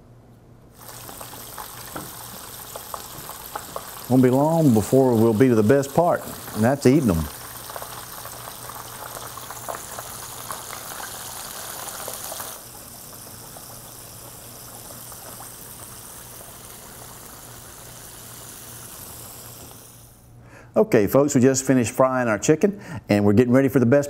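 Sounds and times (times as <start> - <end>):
chicken frying in hot oil: 0.7 - 20.2.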